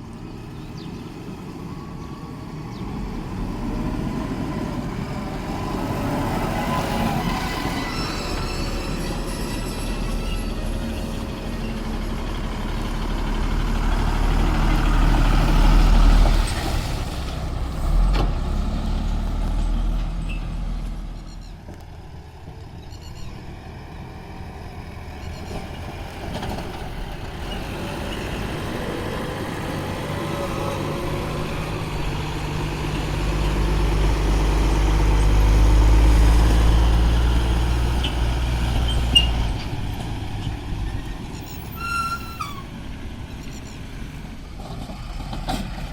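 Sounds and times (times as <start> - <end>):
heavy diesel engine revving: 0.1 - 21.5, 23.8 - 45.9.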